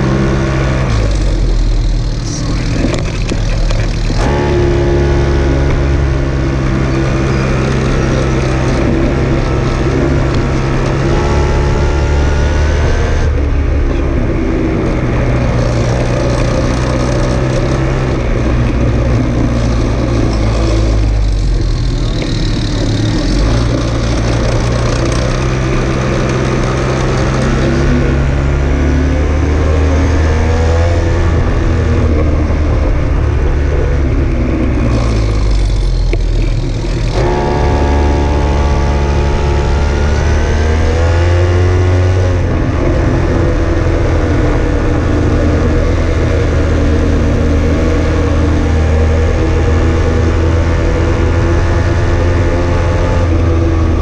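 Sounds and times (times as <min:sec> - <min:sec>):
vehicle engine accelerating: 0:00.0 - 0:54.0.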